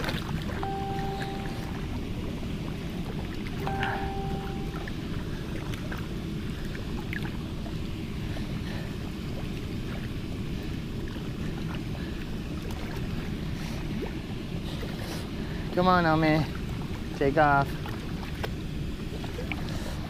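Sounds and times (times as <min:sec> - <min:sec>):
water lapping: 0:00.0 - 0:20.0.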